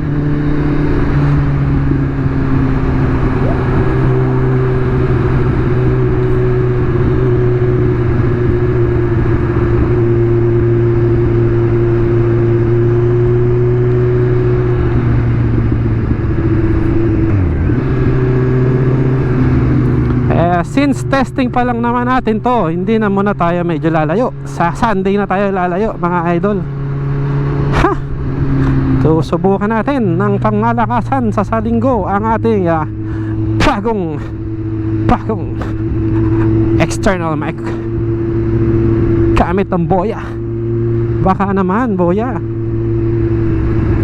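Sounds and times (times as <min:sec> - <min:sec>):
motorcycle engine cruising: 0:00.0 - 0:44.0.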